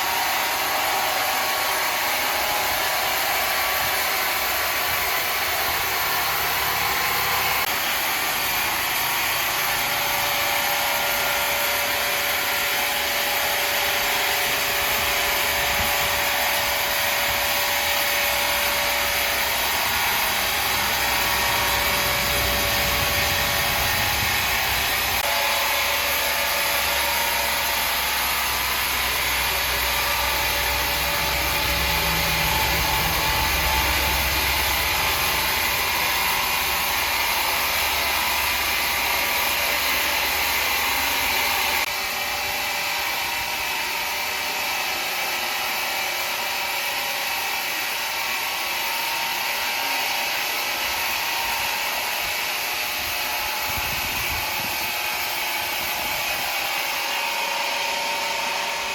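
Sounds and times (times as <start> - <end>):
woodworking machine hissing: 0.0 - 58.9.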